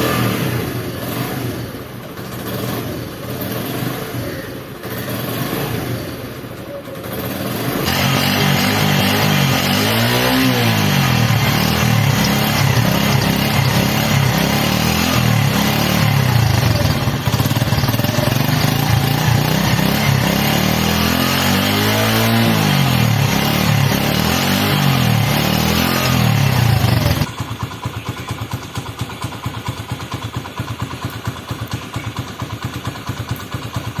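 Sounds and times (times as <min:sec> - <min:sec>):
motorcycle engine revving and idling: 0:00.0 - 0:34.0.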